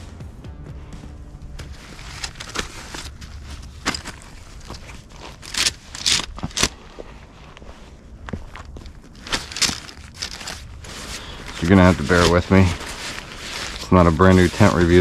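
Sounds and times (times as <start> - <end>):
footsteps on dry leaves: 0.8 - 15.0
nylon sacks rustling: 1.4 - 15.0.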